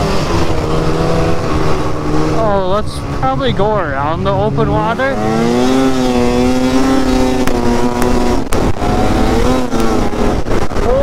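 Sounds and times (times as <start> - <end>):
snowmobile engine at high revs: 0.0 - 11.0.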